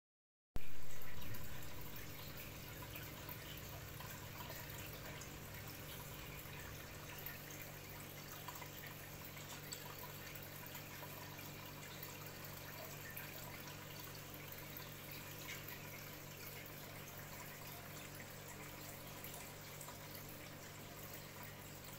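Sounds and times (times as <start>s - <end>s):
low steady hum: 0.6s - 21.9s
water trickling: 0.6s - 21.9s.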